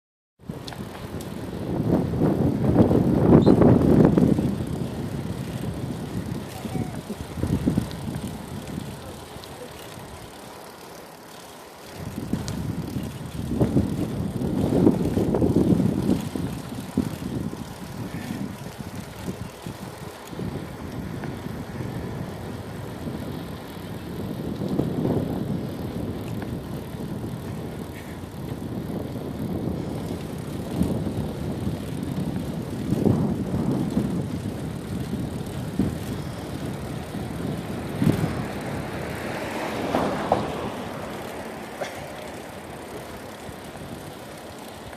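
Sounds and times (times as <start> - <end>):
wind and tyres rumbling: 0.4 - 44.9.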